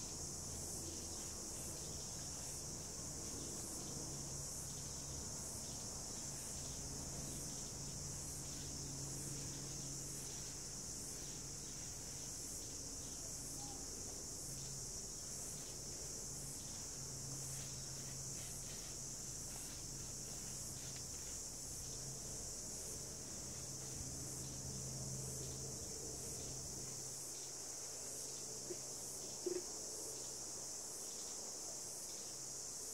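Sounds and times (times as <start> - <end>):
insects chirring: 0.0 - 32.9.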